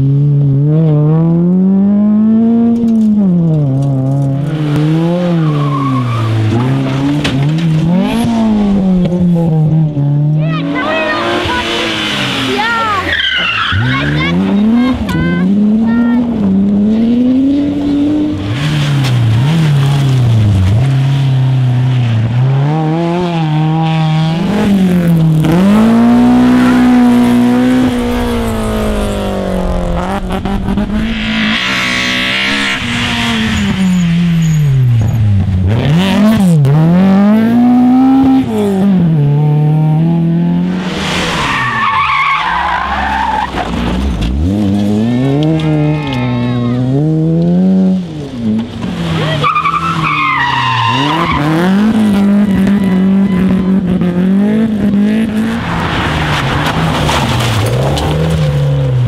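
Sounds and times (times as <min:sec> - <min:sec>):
rally car engines revving: 0:00.0 - 0:59.0
tyres skidding: 0:01.5 - 0:59.0.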